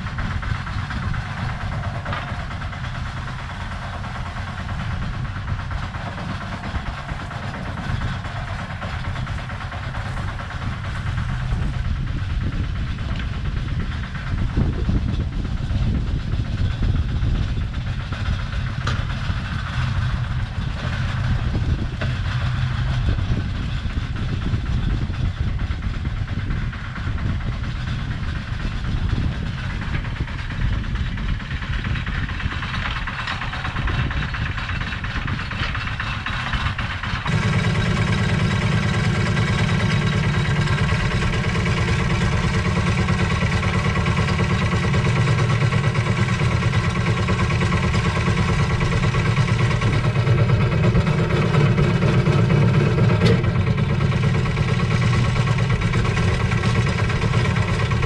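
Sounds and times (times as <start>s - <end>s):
diesel excavator engine running: 0.0s - 58.0s.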